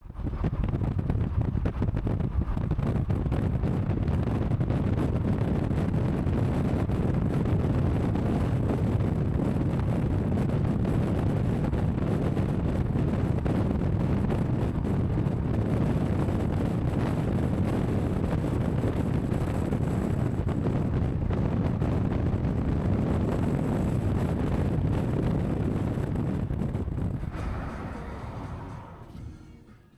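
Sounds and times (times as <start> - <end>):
car driving road and engine noise: 0.0 - 29.9
wind: 0.0 - 29.9.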